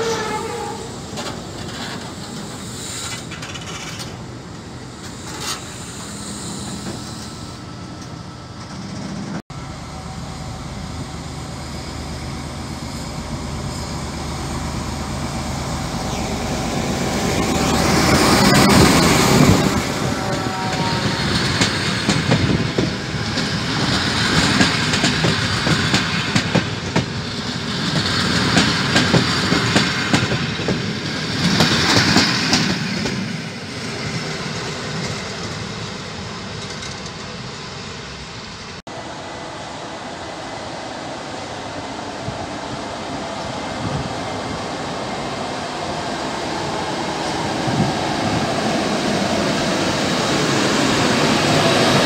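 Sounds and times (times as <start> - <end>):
diesel locomotive passing: 0.0 - 52.0.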